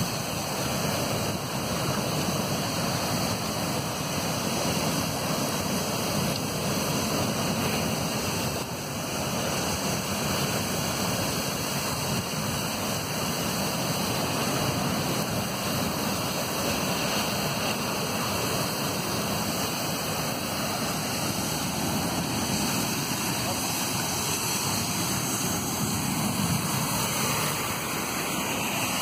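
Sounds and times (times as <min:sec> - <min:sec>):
water spray rushing: 0:00.0 - 0:29.0.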